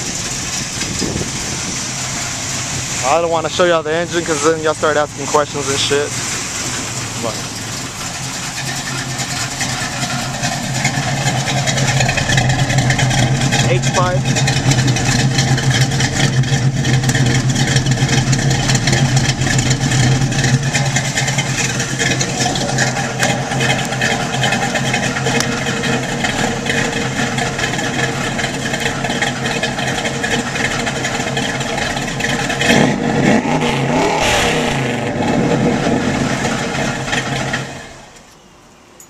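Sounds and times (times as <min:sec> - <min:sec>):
engine revving: 0:00.0 - 0:38.2
pickup truck engine rumbling: 0:00.0 - 0:39.0.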